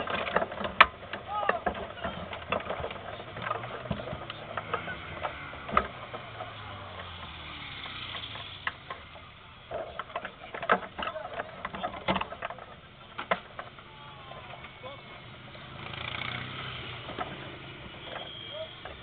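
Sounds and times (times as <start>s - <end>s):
faint engine running low: 0.0s - 19.0s
sharp clicks and knocks: 0.0s - 19.0s.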